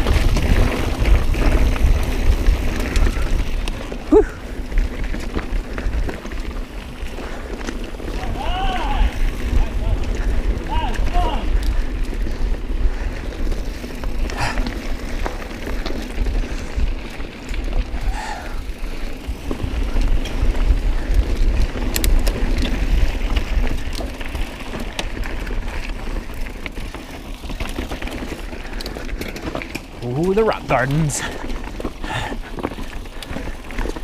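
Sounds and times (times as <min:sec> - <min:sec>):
bike tyres rumbling on trail: 0:00.0 - 0:34.0
wheels knocking on rocks: 0:00.0 - 0:34.0.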